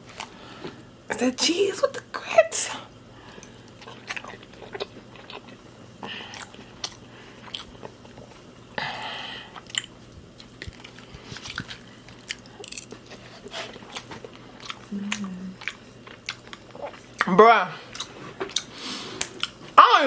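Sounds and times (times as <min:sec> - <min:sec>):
person chewing food: 0:03.2 - 0:19.8.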